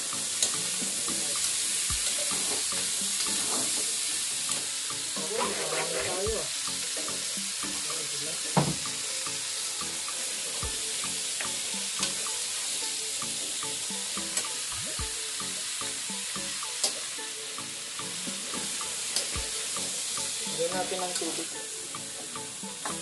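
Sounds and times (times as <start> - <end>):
vegetables sizzling in a wok: 0.0 - 23.0.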